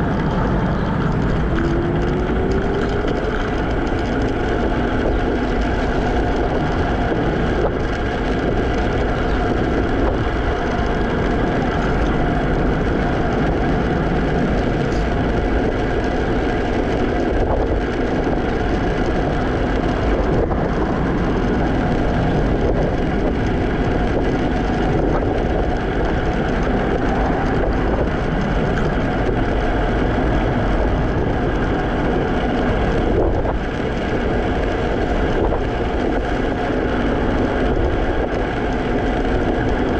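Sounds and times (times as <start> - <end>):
scooter rolling noise: 0.0 - 39.9
wind noise: 0.0 - 39.9.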